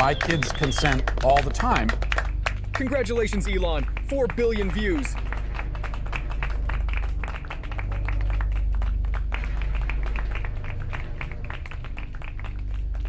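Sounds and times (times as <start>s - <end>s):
applause: 0.0s - 13.0s
background music with bass: 0.0s - 13.0s.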